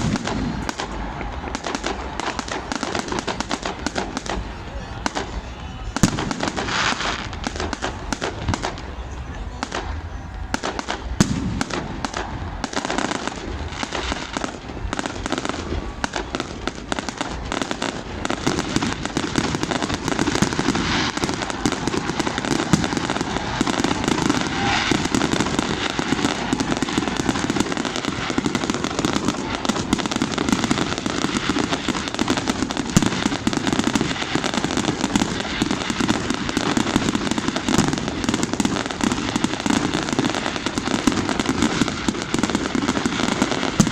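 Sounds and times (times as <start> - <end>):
fireworks crackling and popping: 0.0 - 43.9.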